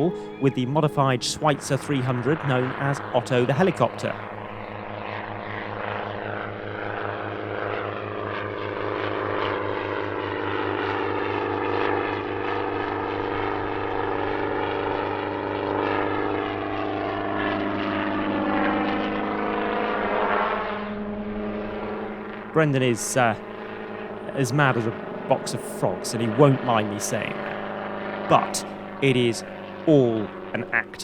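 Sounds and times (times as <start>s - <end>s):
helicopter engine and rotor: 0.0s - 31.0s.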